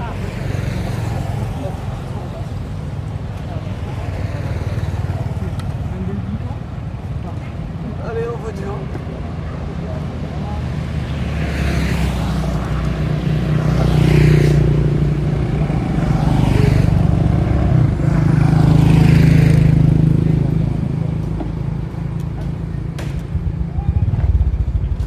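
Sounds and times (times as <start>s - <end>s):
vehicles passing by: 0.0s - 25.0s.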